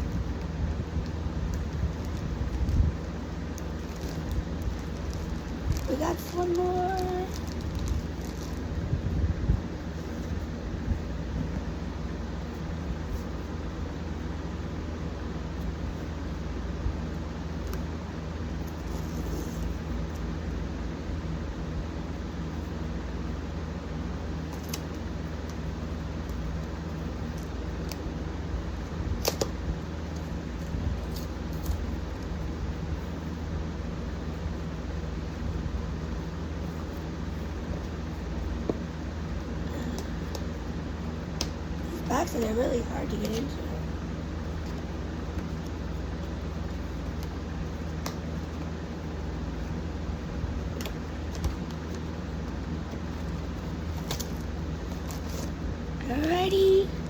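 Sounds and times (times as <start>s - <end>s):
fan and air conditioner hum: 0.0s - 57.0s.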